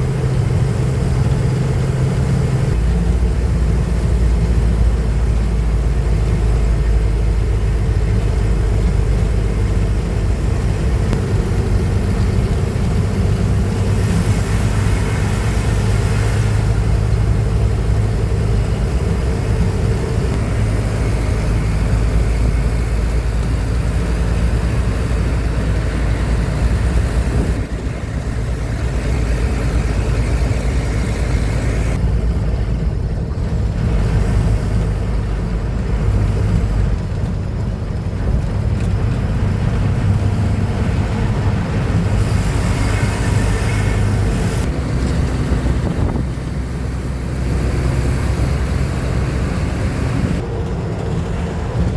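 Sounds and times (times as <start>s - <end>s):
road noise: 0.0s - 51.9s
truck engine droning: 0.0s - 51.9s.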